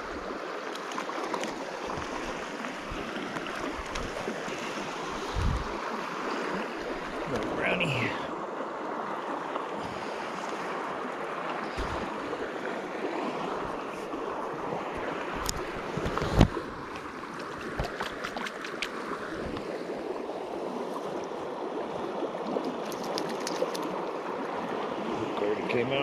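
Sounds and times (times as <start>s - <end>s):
river flowing: 0.0s - 26.0s.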